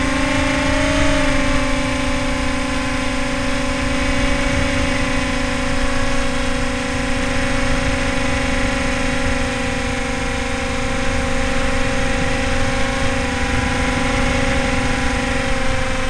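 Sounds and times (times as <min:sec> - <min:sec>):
electric motor propeller whine: 0:00.0 - 0:16.0
rushing wind: 0:00.0 - 0:16.0.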